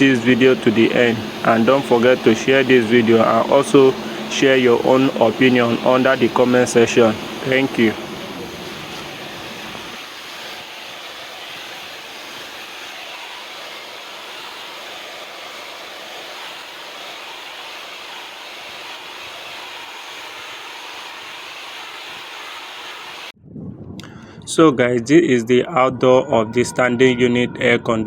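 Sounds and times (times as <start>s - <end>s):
water jet hissing: 0.0s - 23.3s.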